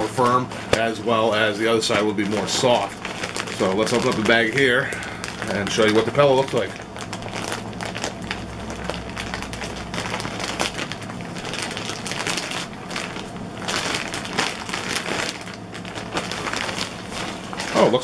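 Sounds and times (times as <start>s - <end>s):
plastic bag tearing and crinkling: 0.0s - 18.0s.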